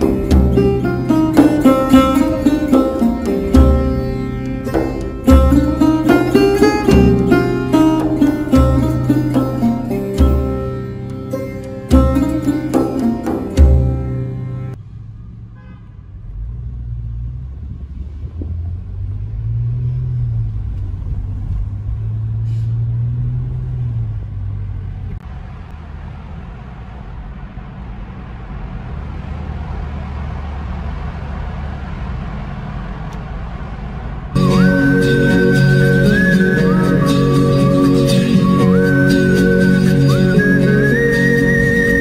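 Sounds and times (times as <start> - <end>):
car engine rumble: 0.0 - 42.0
tyre and road noise: 0.0 - 42.0.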